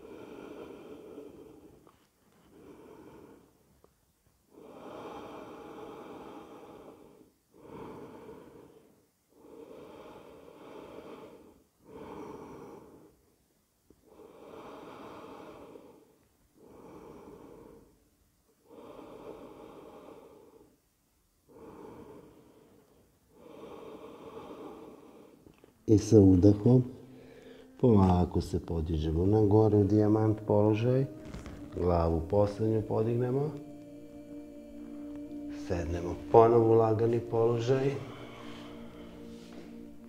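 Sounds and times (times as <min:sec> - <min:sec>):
man breathing slowly: 0:00.0 - 0:13.4, 0:14.0 - 0:20.8, 0:21.4 - 0:25.8, 0:26.9 - 0:27.9, 0:29.2 - 0:40.0.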